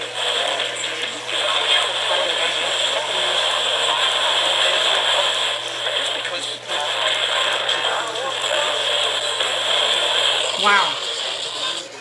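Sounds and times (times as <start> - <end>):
faint broadcast speech: 0.0 - 12.0
radio static hiss: 0.0 - 12.0.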